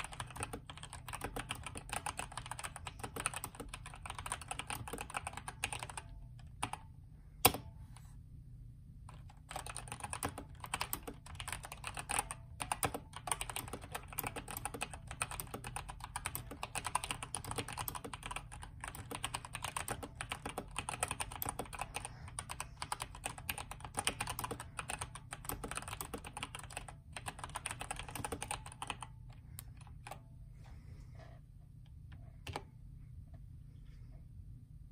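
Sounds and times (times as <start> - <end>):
mechanical keyboard typing: 0.0 - 7.6, 9.1 - 30.2.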